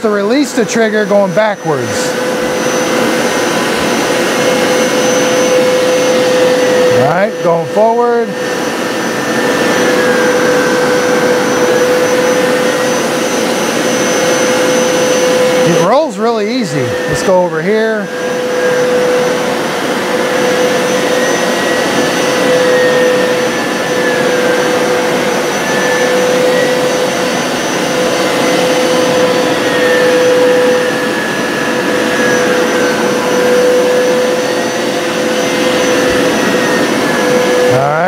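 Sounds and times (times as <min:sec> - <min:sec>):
carpet cleaner motor humming: 0:00.0 - 0:38.0
higher motor whine: 0:00.0 - 0:38.0.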